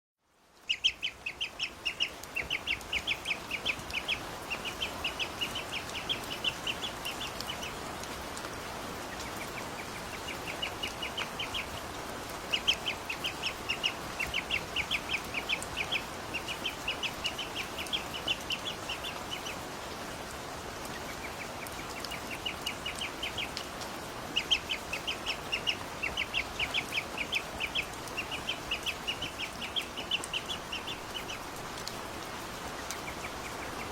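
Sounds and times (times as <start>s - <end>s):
rain hissing: 0.2s - 33.9s
ducklings peeping: 0.6s - 7.9s, 9.0s - 19.6s, 20.9s - 23.7s, 24.3s - 31.5s, 32.6s - 33.9s.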